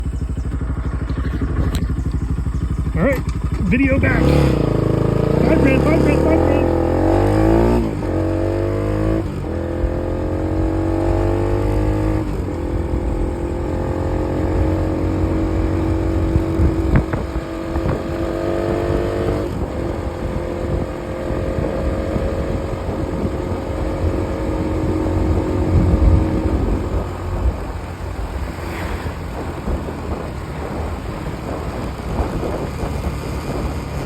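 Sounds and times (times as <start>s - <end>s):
low wind rumble: 0.0s - 34.0s
motorcycle engine running: 0.0s - 34.0s.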